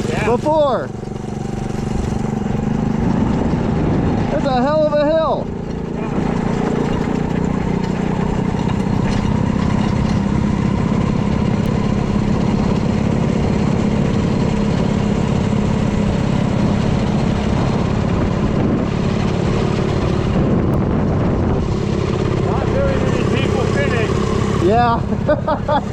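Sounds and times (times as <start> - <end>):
small engine running steadily: 0.0 - 25.9.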